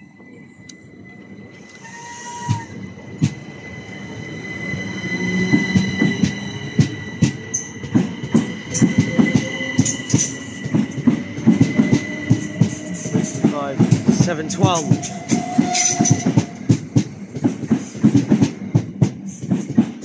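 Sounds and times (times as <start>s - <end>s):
electric train passing through: 0.0s - 20.0s
high-pitched train whine: 0.0s - 20.0s.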